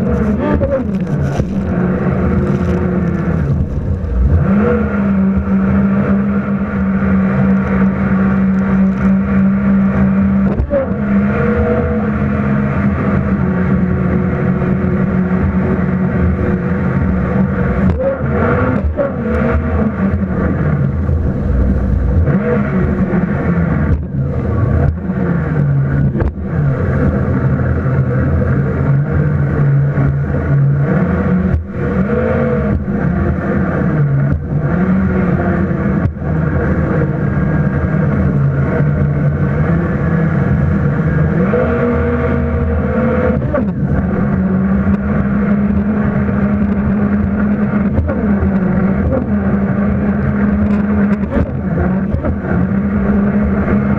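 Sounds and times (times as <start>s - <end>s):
jet ski engine revving: 0.0s - 53.9s.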